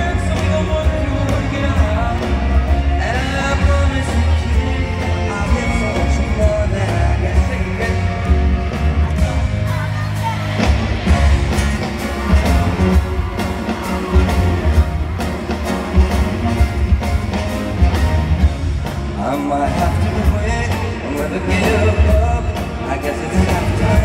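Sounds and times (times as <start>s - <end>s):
singers' vocals: 0.0s - 15.3s, 19.1s - 24.0s
bass: 0.0s - 24.0s
drums beating: 0.0s - 24.0s
live pop band playing: 0.0s - 24.0s.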